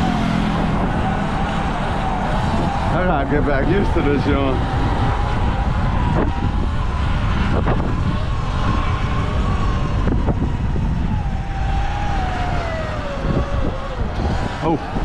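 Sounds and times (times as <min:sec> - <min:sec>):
electric motorbike motor whining: 0:00.0 - 0:15.0
wind rumble on microphone: 0:00.0 - 0:15.0.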